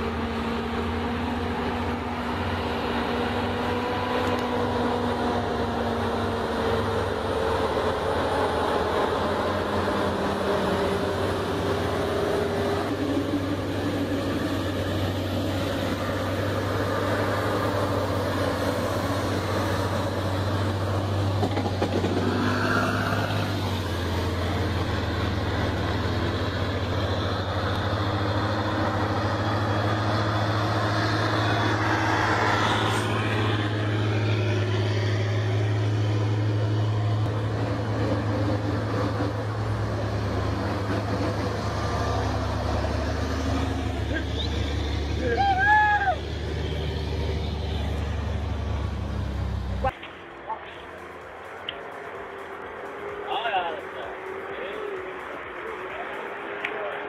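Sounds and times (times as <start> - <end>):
truck diesel engines running: 0.0 - 57.0.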